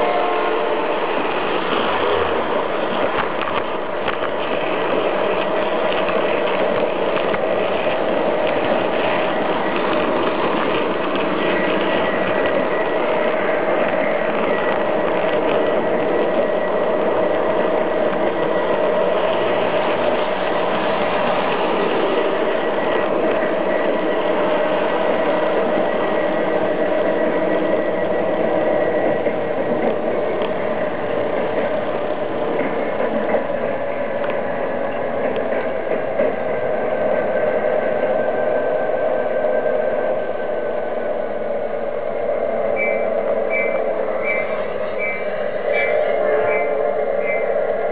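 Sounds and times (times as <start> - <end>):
wheels rolling on track: 0.0 - 47.9.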